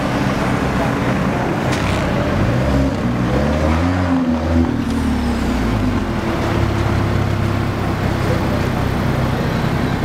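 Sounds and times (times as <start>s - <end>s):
car engine and exhaust at low revs: 0.0s - 10.0s.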